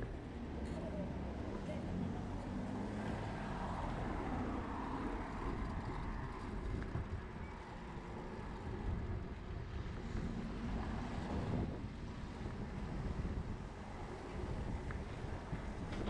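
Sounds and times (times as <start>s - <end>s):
bus running: 0.0s - 16.0s
city street traffic: 0.0s - 16.0s.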